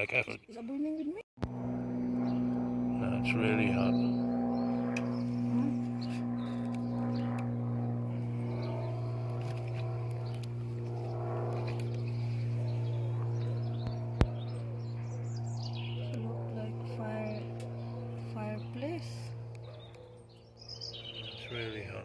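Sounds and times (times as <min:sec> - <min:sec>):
steady low hum: 0:01.4 - 0:22.0.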